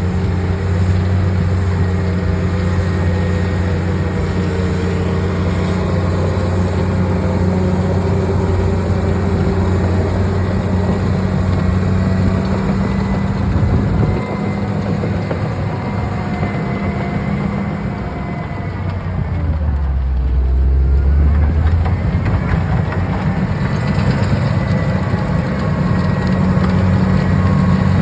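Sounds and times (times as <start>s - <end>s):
bulldozer diesel engine droning: 0.0s - 28.0s.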